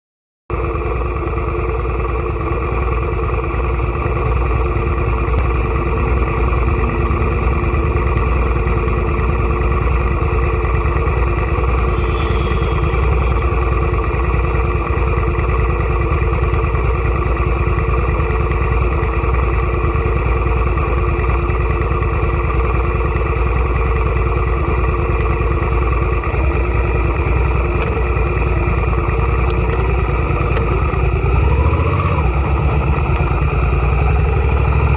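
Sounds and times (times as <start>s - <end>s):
motorcycle engine idling: 0.5s - 34.9s.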